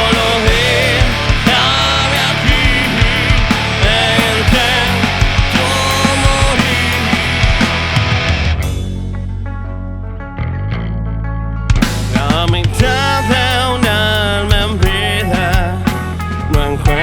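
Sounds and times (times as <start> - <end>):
drums beating: 0.0 - 9.2, 11.7 - 17.0
live rock band: 0.0 - 10.6, 11.2 - 17.0.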